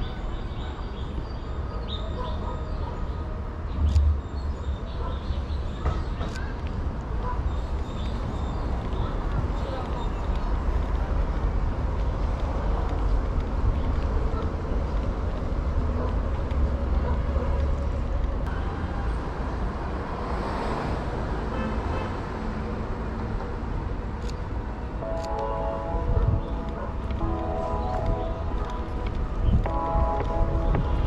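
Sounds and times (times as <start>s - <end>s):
city background sound: 0.0s - 31.0s
road traffic rumble: 0.0s - 31.0s.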